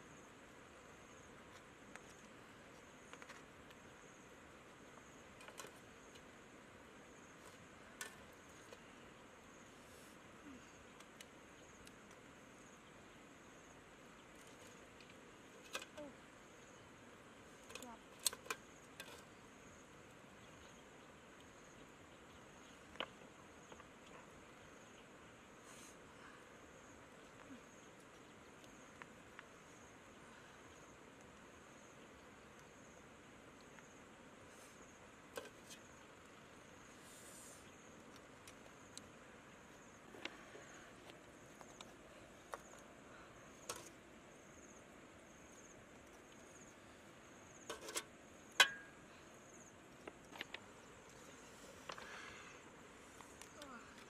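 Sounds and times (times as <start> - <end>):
faint high insect trill: 0.0 - 54.0.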